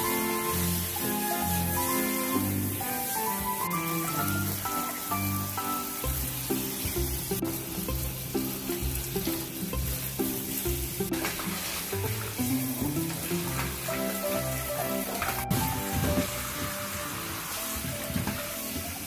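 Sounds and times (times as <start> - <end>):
background music: 0.0 - 19.0
shower spraying water: 0.0 - 19.0.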